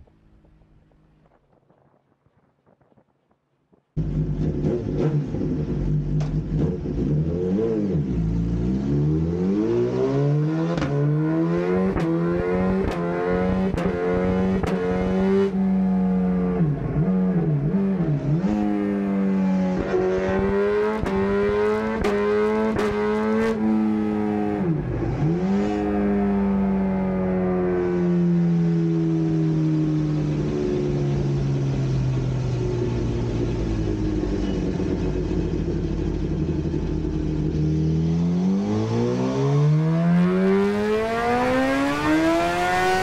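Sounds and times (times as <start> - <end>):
motorcycle engine revving: 4.0 - 43.0.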